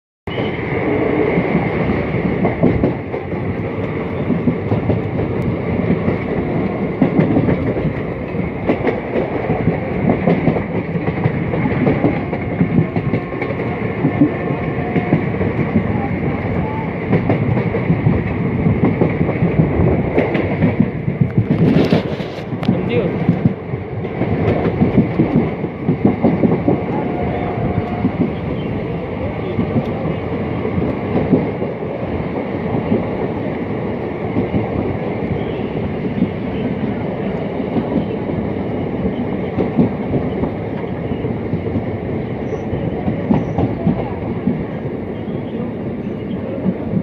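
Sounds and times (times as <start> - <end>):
train wheels rumbling on track: 0.3 - 47.0.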